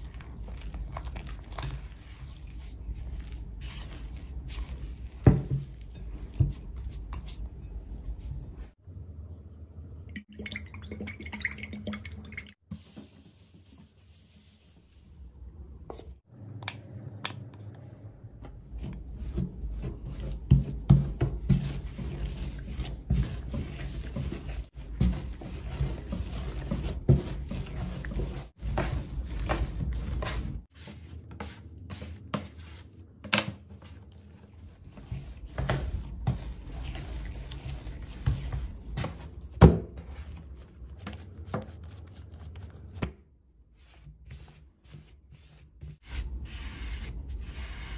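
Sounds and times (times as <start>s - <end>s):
dough squishing and slapping: 0.0s - 8.8s, 12.6s - 16.2s, 17.1s - 47.9s.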